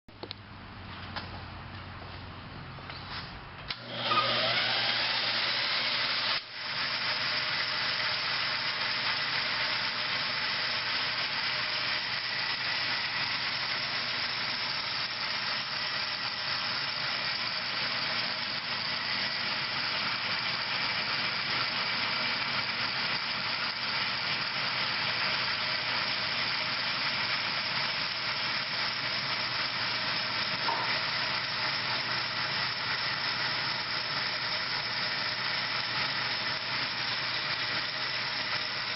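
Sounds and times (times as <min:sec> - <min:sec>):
band saw whirring: 0:03.1 - 0:38.9.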